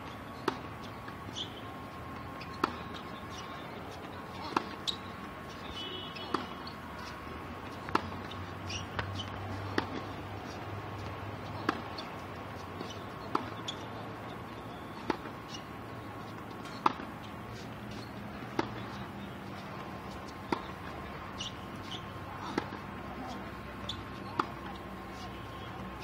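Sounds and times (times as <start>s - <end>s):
tennis ball bouncing on court: 0.3s - 26.0s.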